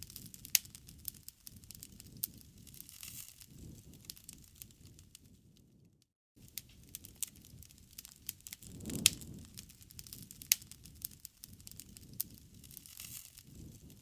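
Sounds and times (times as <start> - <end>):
low rumble of flame: 0.0 - 14.0
wood fire crackling and popping: 0.0 - 14.0.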